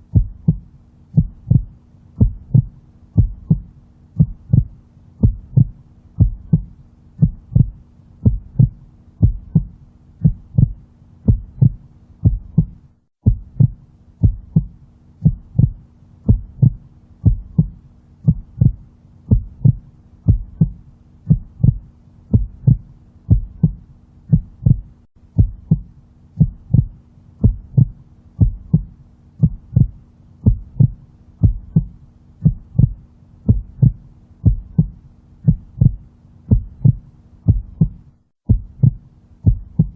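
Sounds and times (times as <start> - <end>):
faint low hum: 0.0 - 39.9
heartbeat: 0.0 - 39.9.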